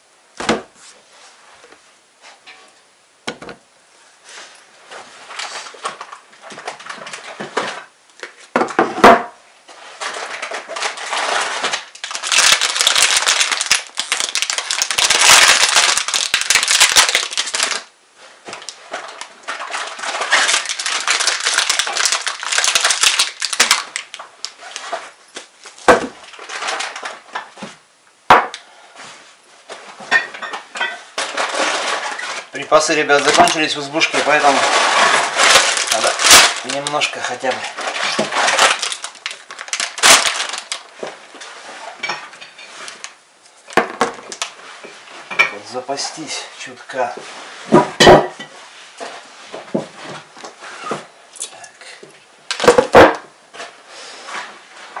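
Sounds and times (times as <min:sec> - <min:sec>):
plastic bags rustling: 0:04.2 - 0:08.4, 0:09.6 - 0:27.8, 0:29.0 - 0:51.2, 0:52.4 - 0:55.0.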